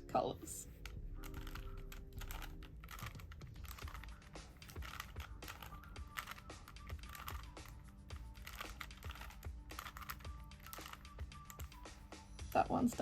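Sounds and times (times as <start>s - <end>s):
plastic puzzle cube clicking: 0.7s - 12.0s.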